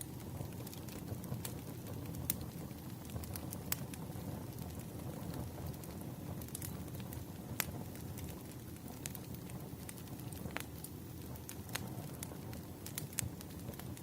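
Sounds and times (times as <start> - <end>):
campfire crackling: 0.0 - 14.0
fire pops and snaps: 0.0 - 14.0.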